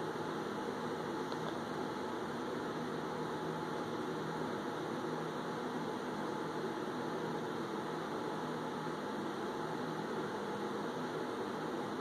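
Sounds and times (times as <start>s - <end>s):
room tone hum and hiss: 0.0s - 12.0s.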